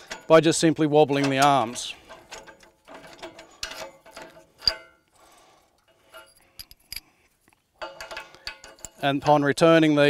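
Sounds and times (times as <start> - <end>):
metal pins clinking and knocking: 0.0 - 5.1, 5.8 - 9.2.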